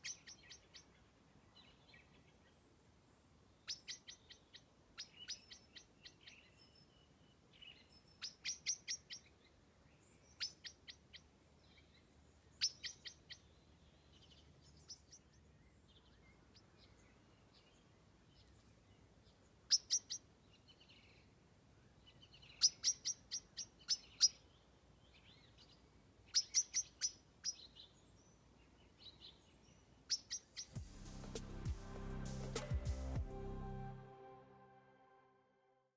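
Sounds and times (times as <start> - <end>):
birds chirping: 0.0 - 2.8, 3.5 - 33.6.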